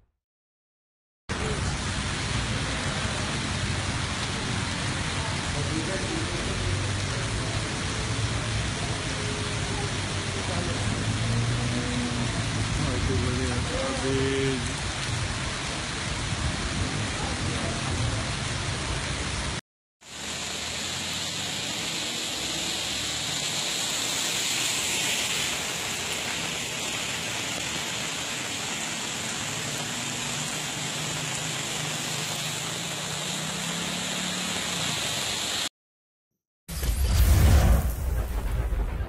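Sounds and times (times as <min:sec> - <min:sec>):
car engines driving through water: 0:01.3 - 0:35.7
heavy rain: 0:01.3 - 0:35.7
water rushing on a flooded road: 0:01.3 - 0:35.7.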